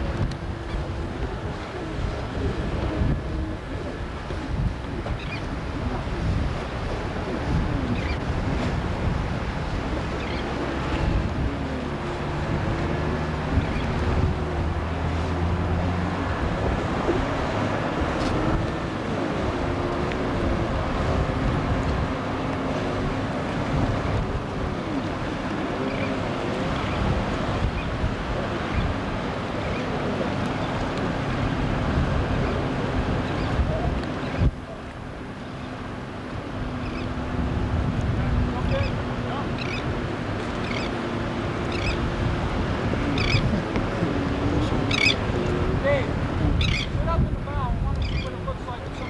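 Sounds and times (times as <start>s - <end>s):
outboard motor running: 0.0s - 49.0s
water splashing against hull: 0.0s - 49.0s
wind buffeting microphone: 0.0s - 49.0s.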